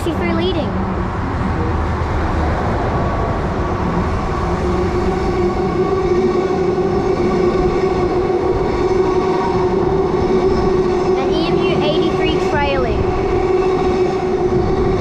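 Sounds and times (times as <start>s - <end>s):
electric train running past: 0.0s - 15.0s
pitched train whine: 0.0s - 15.0s.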